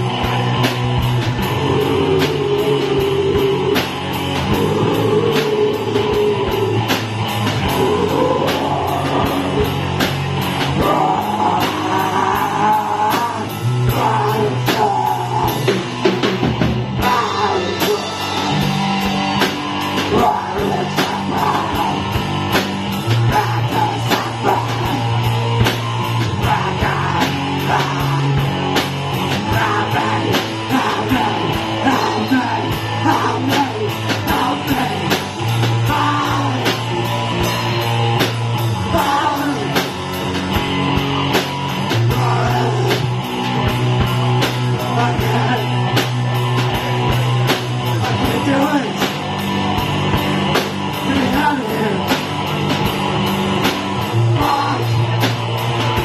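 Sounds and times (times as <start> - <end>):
drum kit steady beat: 0.0 - 56.0.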